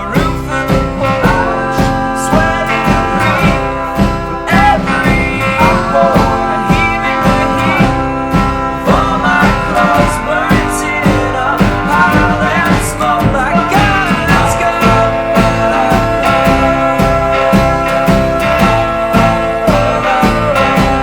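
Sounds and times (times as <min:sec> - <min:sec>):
bending guitar notes: 0:00.0 - 0:21.0
guitar band music: 0:00.0 - 0:21.0
person singing: 0:00.0 - 0:21.0.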